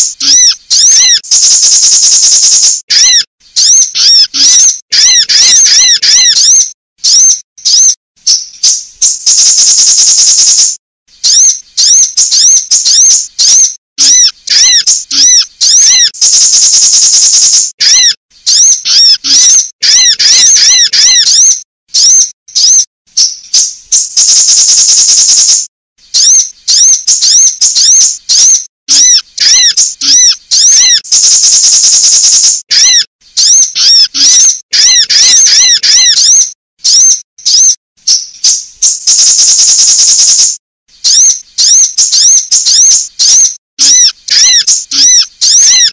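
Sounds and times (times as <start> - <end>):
high thin bird chirps: 0.0 - 45.9
loud buzzy bird trill: 0.0 - 45.9.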